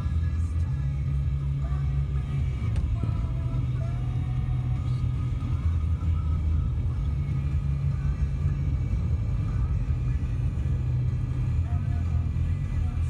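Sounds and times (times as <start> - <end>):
faint music: 0.0 - 13.0
low rumble: 0.0 - 13.0.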